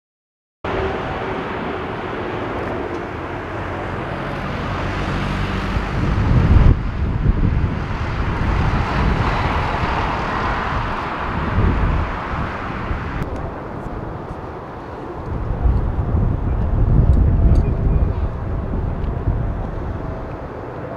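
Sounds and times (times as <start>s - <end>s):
jet engines roaring: 0.7s - 20.9s
wind rumbling on microphone: 0.7s - 20.9s.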